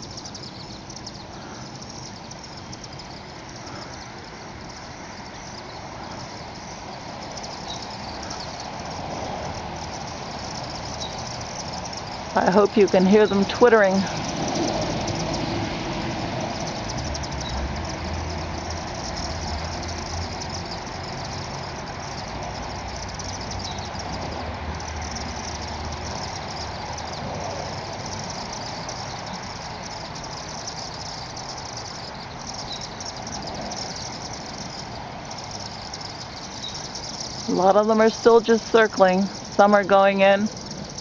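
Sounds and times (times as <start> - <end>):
swifts twittering: 0.0 - 41.0
vehicle engine rumbling: 0.0 - 41.0.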